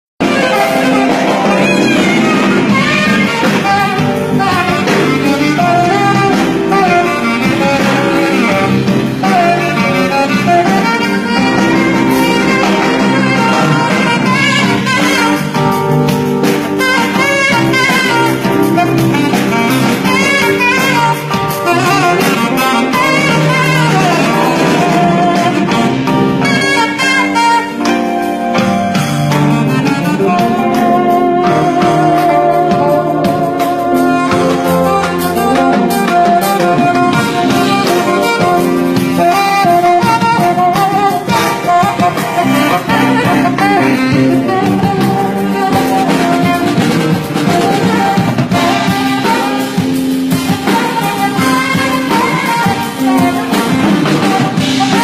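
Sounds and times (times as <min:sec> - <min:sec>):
electric bass: 0:00.2 - 0:55.0
saxophone improvising: 0:00.2 - 0:55.0.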